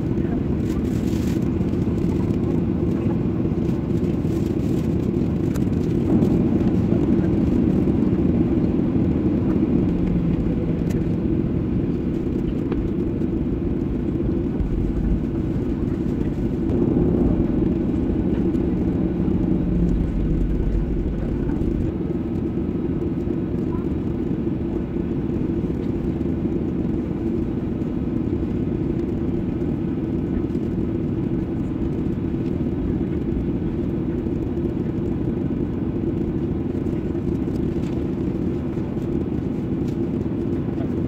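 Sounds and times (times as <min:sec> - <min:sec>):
airliner cabin rumble: 0:00.0 - 0:41.0.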